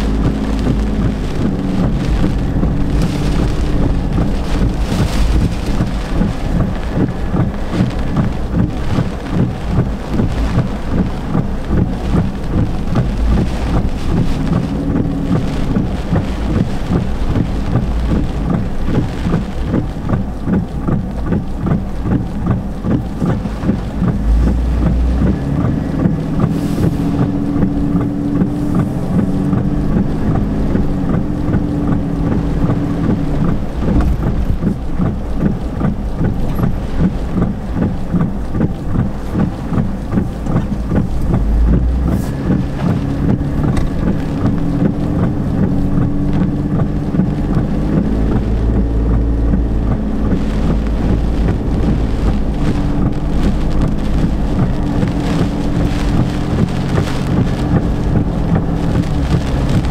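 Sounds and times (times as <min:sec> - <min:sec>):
car engine running: 0:00.0 - 0:59.9
rain pattering on car: 0:00.0 - 0:59.9
wind rumble: 0:00.0 - 0:59.9.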